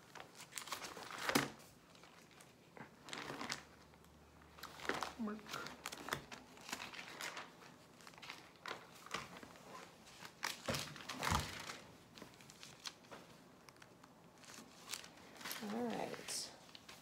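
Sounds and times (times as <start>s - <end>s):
rustling and crinkling handling: 0.0s - 17.0s.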